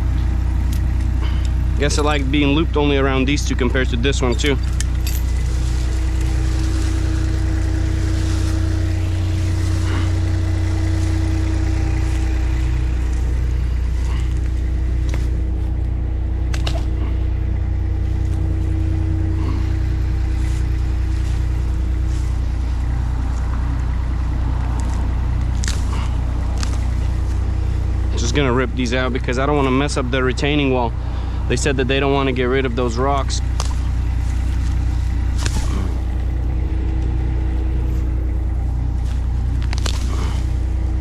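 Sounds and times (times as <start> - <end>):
skid steer engine running: 0.0 - 41.0.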